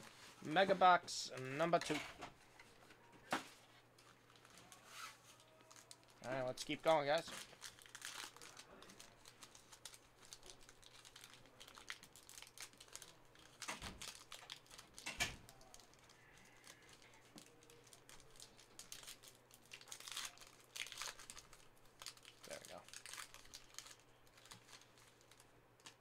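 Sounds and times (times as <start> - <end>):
card packs crinkling and tearing: 4.0 - 26.0.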